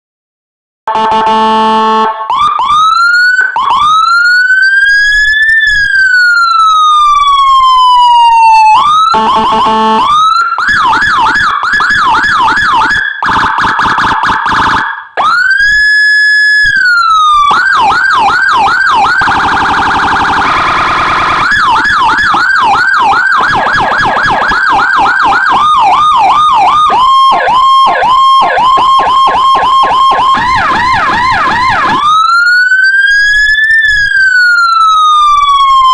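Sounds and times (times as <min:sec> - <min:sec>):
electronic police siren: 0:00.9 - 0:35.9.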